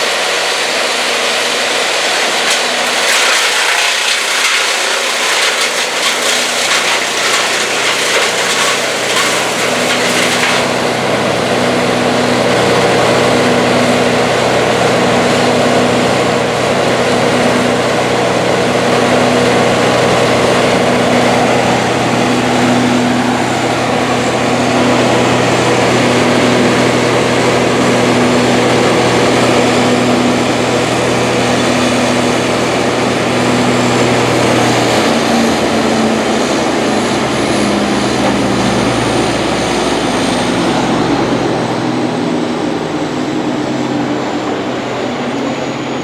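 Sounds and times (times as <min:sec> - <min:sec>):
large engine running: 0:00.0 - 0:46.0.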